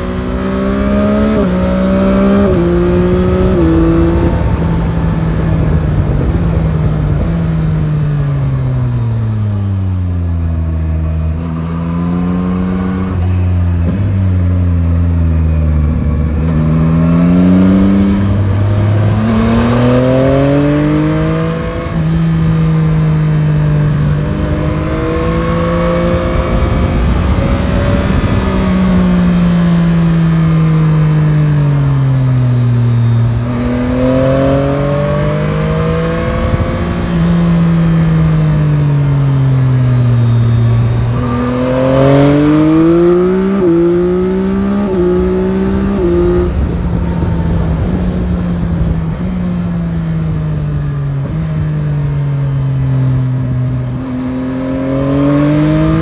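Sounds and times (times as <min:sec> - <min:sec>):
motorcycle engine revving: 0:00.0 - 0:56.0
wind and road rush: 0:00.0 - 0:56.0.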